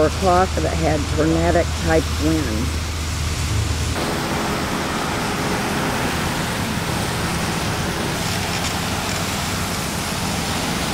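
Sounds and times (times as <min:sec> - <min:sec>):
roadside din: 0:00.0 - 0:10.9.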